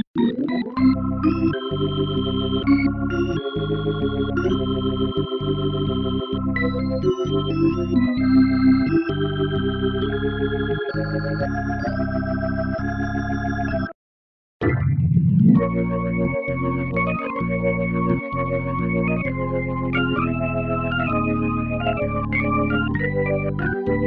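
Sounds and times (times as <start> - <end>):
organ-like chords: 0.0 - 14.0, 14.6 - 24.0.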